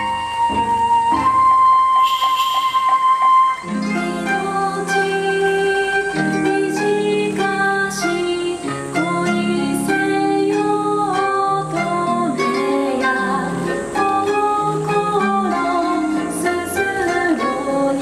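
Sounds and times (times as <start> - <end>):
plucked-string dance music: 0.0 - 18.0.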